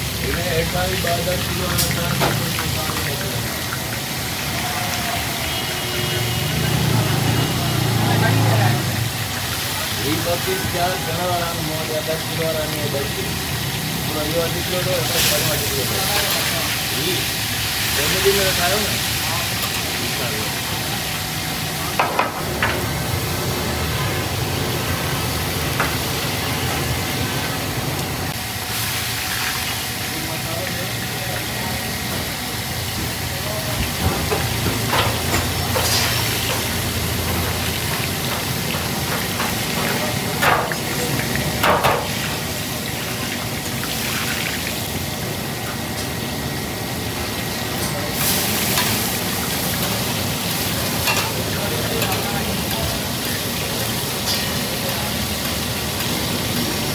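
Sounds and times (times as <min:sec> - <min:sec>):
fish sizzling in hot oil: 0:00.0 - 0:56.9.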